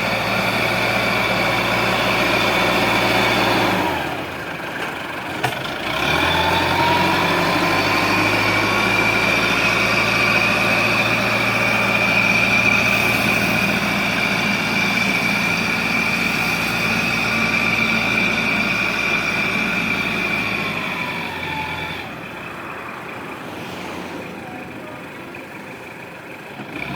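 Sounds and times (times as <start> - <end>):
diesel engine revving: 0.0 - 26.9.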